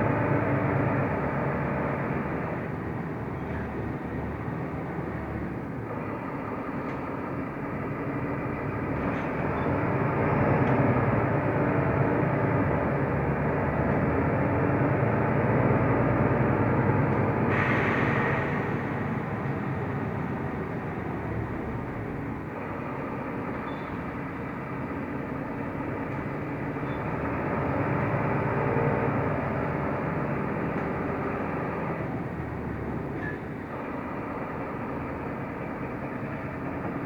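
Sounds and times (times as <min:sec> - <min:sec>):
bus engine hum: 0:00.0 - 0:37.0
road noise: 0:00.0 - 0:37.0.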